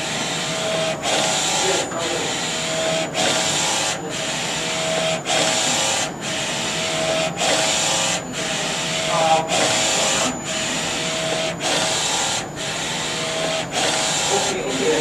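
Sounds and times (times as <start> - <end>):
printer carriage whirring: 0.0 - 15.0.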